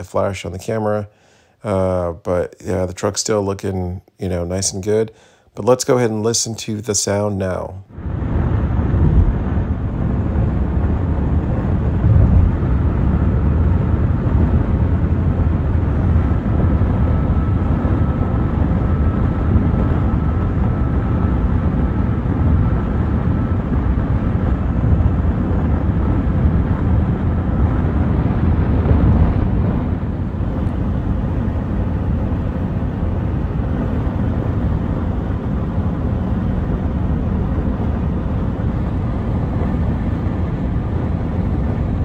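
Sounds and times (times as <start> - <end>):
low road rumble: 7.9 - 42.0
wind rushing over car cab: 7.9 - 42.0.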